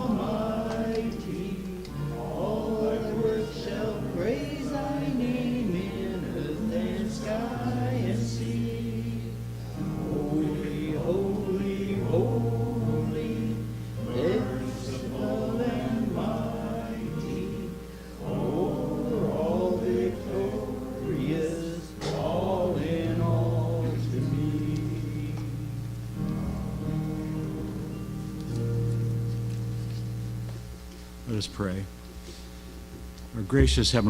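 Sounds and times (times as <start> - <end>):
congregation singing a hymn: 0.0 - 30.0
held accompaniment notes: 0.0 - 30.8, 33.4 - 34.0.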